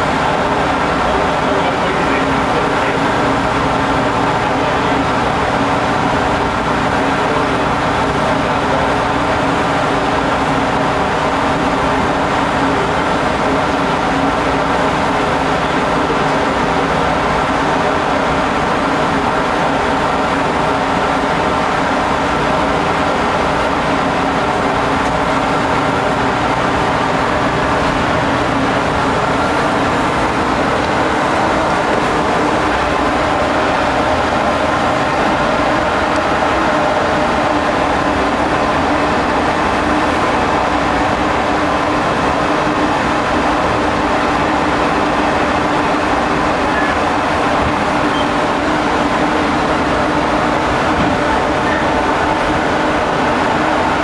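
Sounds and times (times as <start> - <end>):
ship machinery droning: 0.0 - 54.0.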